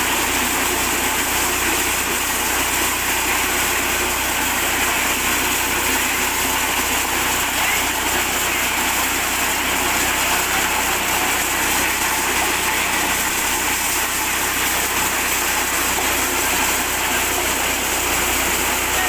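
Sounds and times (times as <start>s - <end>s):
corn sheller humming and rattling: 0.0s - 19.0s.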